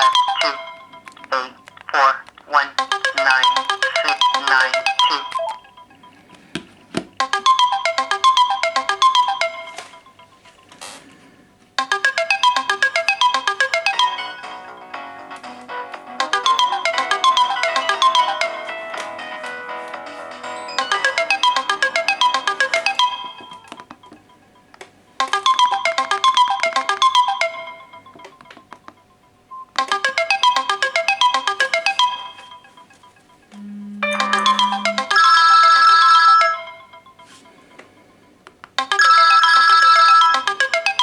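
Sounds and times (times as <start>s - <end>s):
phone ringtone melody: 0.0s - 15.3s, 16.1s - 41.0s.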